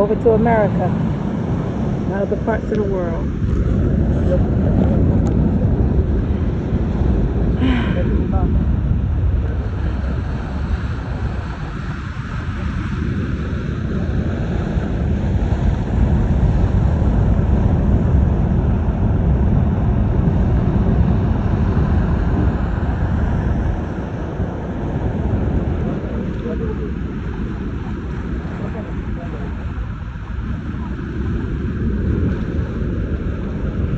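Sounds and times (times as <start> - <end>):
ocean surf: 0.0 - 33.9
wind buffeting microphone: 0.0 - 33.9.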